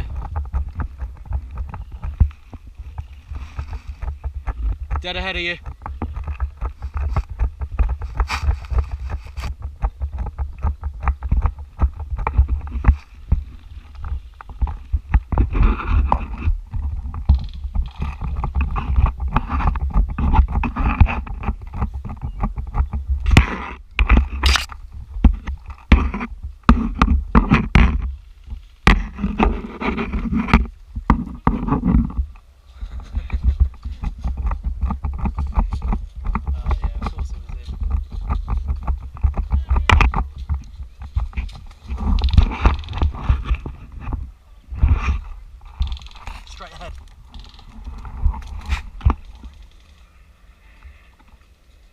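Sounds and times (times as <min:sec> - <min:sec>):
low rumble on microphone: 0:00.0 - 0:51.9.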